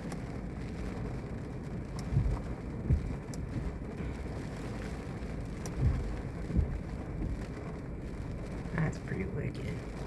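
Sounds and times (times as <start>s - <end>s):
heavy rain rushing: 0.0s - 10.0s
wind thumps on microphone: 0.1s - 8.7s.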